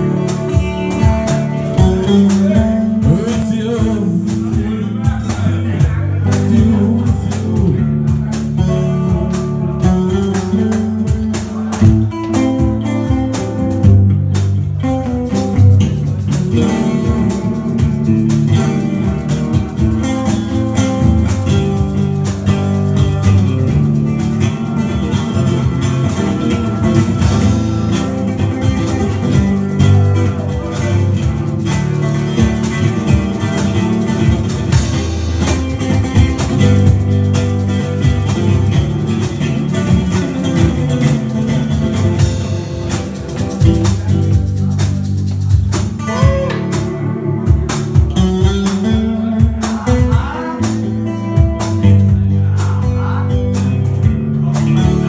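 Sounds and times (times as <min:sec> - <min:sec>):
electric guitar music: 0:00.0 - 0:55.0
percussion beat: 0:00.0 - 0:55.0.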